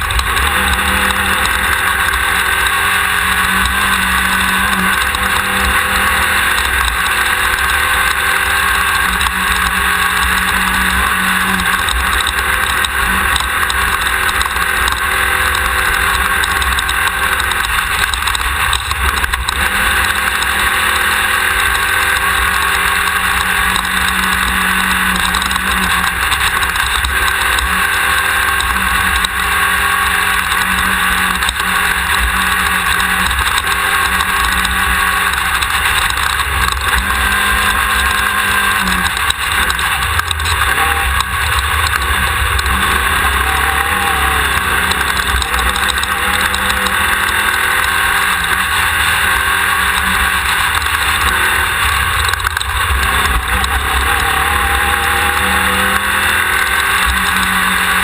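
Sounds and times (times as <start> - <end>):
buggy engine running loud: 0.0 - 58.0.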